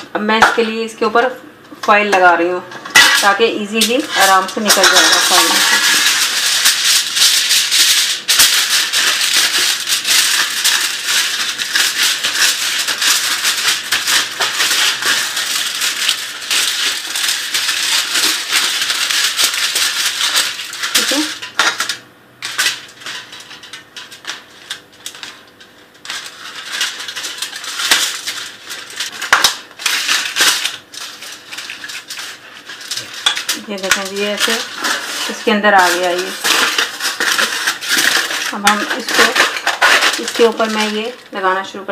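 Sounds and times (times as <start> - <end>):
aluminium foil crinkling: 2.9 - 41.9.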